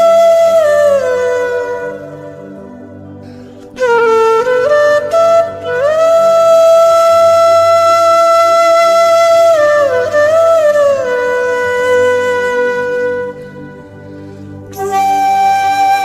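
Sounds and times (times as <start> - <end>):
flute-like wind instrument: 0.0 - 16.0.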